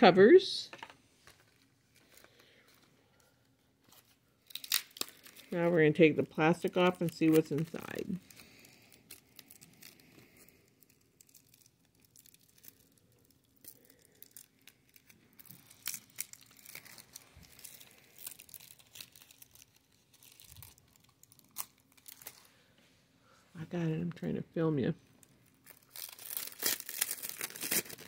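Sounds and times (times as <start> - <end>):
plastic wrap crinkling and tearing: 1.4 - 22.6, 25.2 - 28.0.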